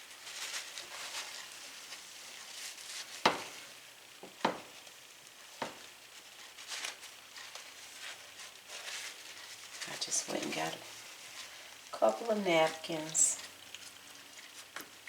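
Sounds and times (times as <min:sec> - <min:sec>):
faint sizzling in skillet: 0:00.0 - 0:15.0.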